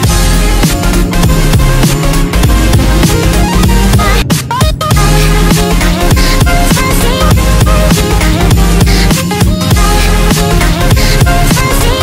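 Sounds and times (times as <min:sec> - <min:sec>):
electronic music with heavy drum beat: 0:00.0 - 0:12.0.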